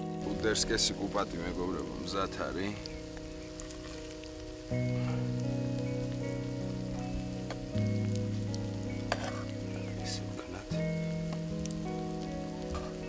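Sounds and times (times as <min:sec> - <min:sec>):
background music of held chords: 0:00.0 - 0:13.0
sausages sizzling in a frying pan: 0:00.0 - 0:13.0.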